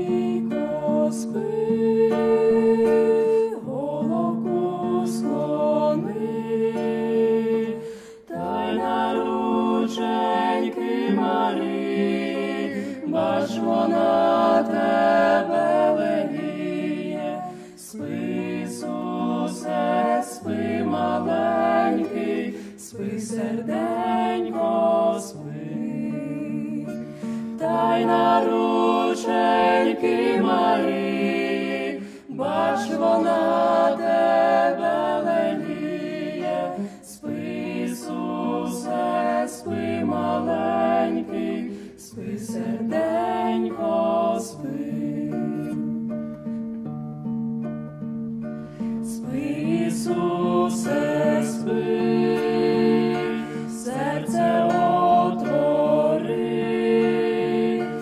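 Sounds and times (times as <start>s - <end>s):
small group singing in harmony: 0.0s - 46.8s, 48.4s - 58.0s
acoustic guitar: 0.0s - 58.0s.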